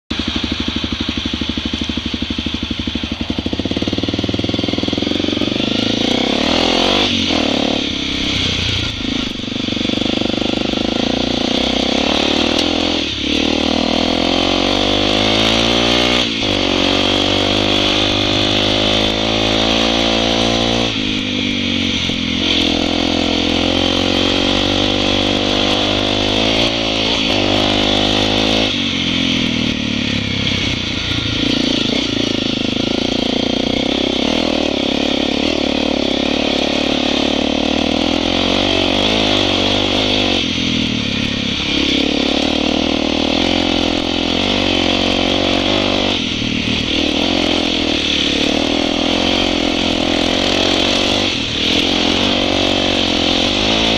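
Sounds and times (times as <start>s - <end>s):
motorcycle engine accelerating: 0.1s - 53.9s
wind and road noise: 0.1s - 53.9s.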